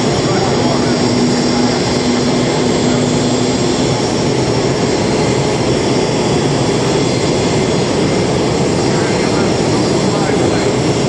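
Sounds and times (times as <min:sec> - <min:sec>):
jet engine noise: 0:00.0 - 0:11.0
low hum: 0:00.0 - 0:11.0.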